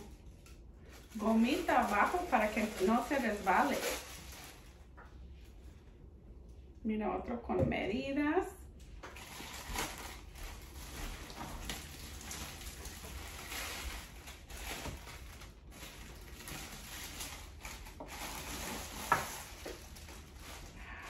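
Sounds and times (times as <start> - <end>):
plastic wrapping crinkling: 0.0 - 5.7, 9.0 - 21.0.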